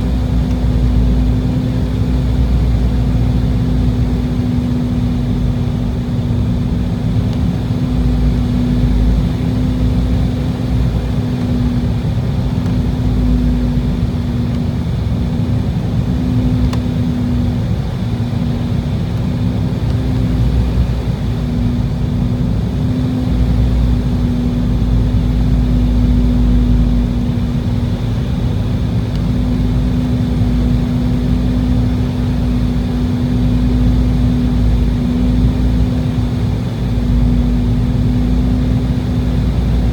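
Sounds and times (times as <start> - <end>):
airliner cabin airflow rumble: 0.0 - 39.9
steady low hum: 0.0 - 39.9
turbofan engines: 0.0 - 39.9.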